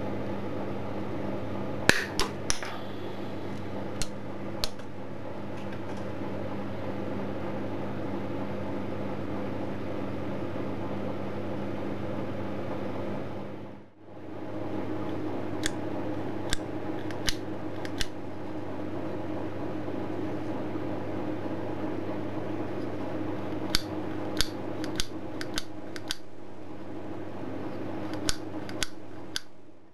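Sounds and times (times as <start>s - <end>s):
steady background hum: 0.0s - 29.9s.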